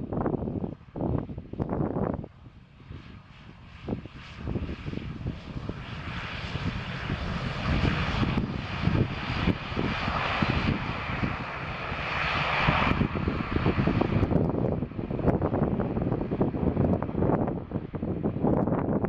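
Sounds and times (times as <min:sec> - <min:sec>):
turboprop plane taking off: 0:00.0 - 0:19.0.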